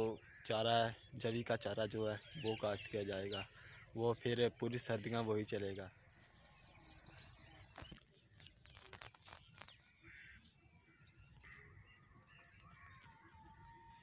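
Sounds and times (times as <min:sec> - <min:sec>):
faint distant calls: 0:00.0 - 0:14.0.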